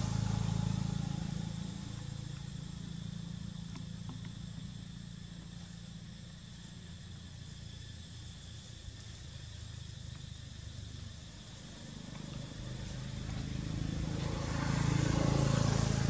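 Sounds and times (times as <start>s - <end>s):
high-pitched insect drone: 0.0s - 16.0s
low motor hum: 0.0s - 16.0s.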